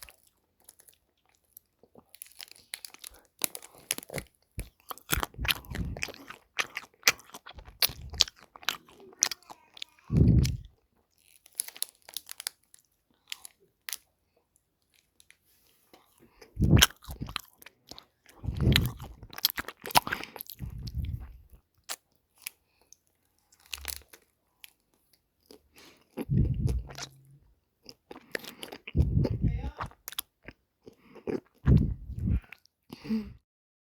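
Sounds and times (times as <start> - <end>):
crunchy bites and chewing: 0.0 - 14.1, 16.0 - 22.7, 23.4 - 27.2, 27.8 - 33.4.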